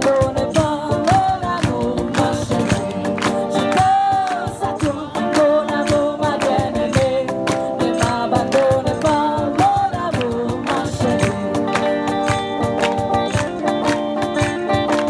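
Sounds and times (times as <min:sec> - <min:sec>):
woman singing: 0:00.0 - 0:12.2
cajon beat: 0:00.0 - 0:15.0
strummed acoustic guitars: 0:00.0 - 0:15.0.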